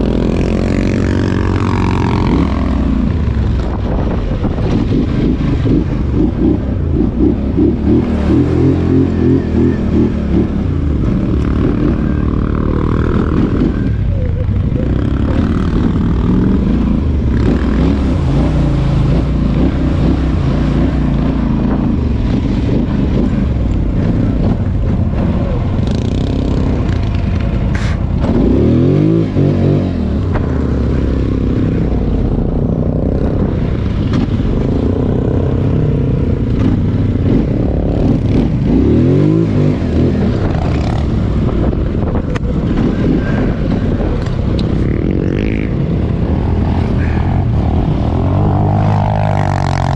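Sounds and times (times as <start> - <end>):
atv engine revving: 0.0 - 49.9.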